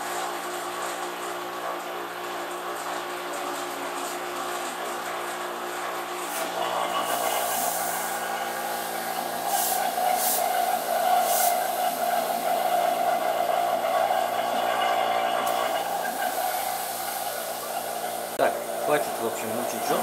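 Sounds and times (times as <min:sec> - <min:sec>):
vacuum pump droning: 0:00.0 - 0:20.0.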